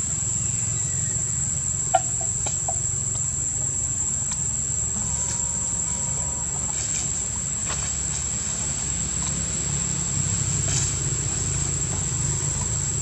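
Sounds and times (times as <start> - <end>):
constant low rumble: 0.0 - 13.0
insects droning: 0.0 - 13.0.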